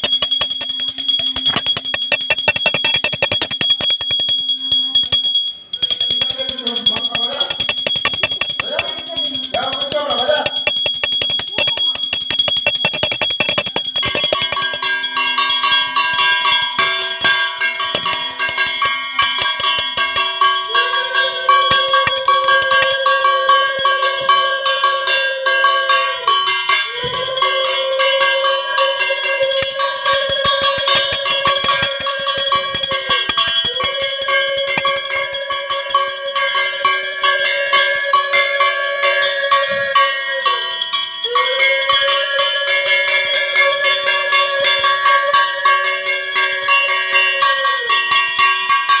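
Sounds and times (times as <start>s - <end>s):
hand bell ringing: 0.0s - 49.0s.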